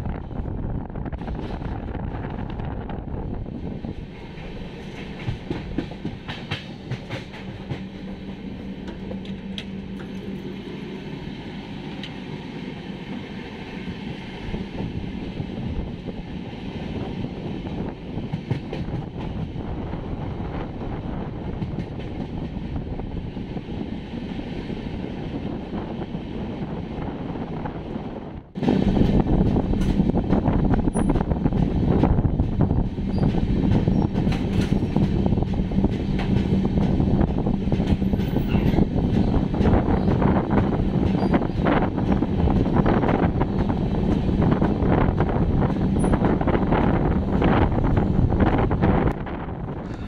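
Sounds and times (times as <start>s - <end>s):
train wheels rumbling on rail: 0.0s - 50.0s
rail joint clicks: 1.0s - 10.6s, 11.8s - 12.3s, 12.9s - 25.9s, 28.6s - 50.0s.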